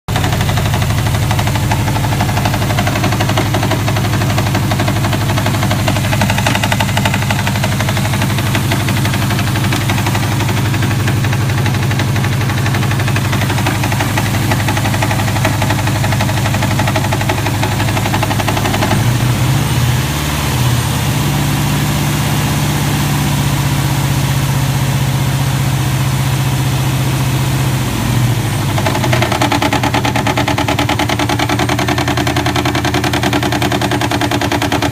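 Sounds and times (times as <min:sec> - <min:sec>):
car engine idling with knocking: 0:00.0 - 0:34.9.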